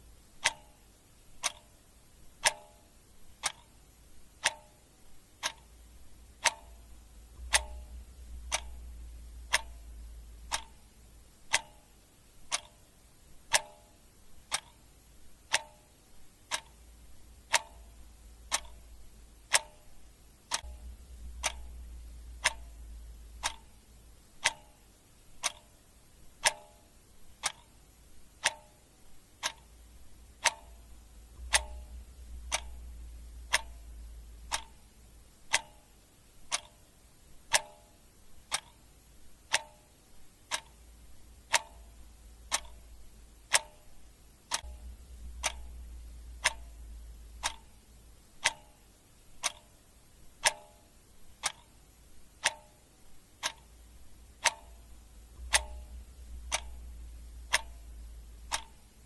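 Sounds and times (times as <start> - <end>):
clock ticking: 0.0 - 59.0
faint low rumble: 0.0 - 59.0.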